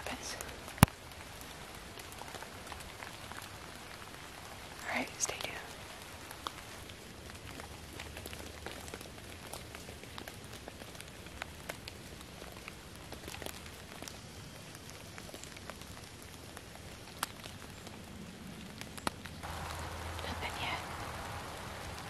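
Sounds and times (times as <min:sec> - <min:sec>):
light rain on leaves: 0:00.0 - 0:22.0
raindrops ticking on leaves: 0:00.0 - 0:22.0.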